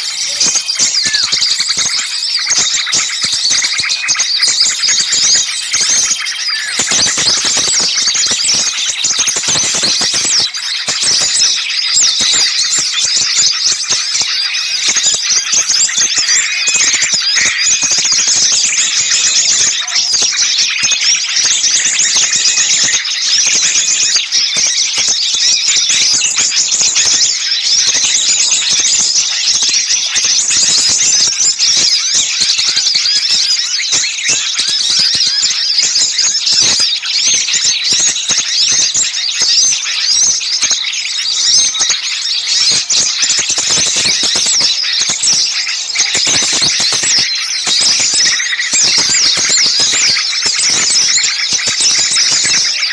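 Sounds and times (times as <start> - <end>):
songbirds chirping and trilling: 0.0 - 52.9.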